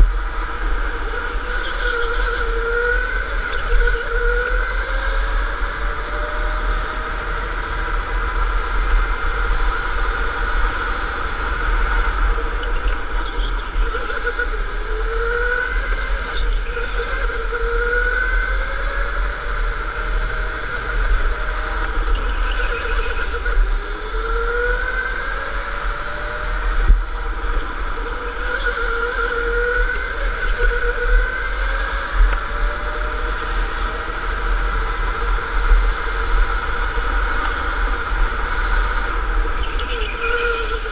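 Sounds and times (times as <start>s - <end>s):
electric go-kart motor whining: 0.0s - 40.9s
low rumble of wind and vibration: 0.0s - 40.9s.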